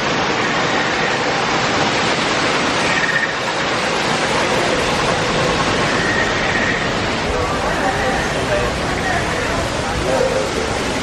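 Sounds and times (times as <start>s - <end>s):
loud rushing noise: 0.0s - 11.0s.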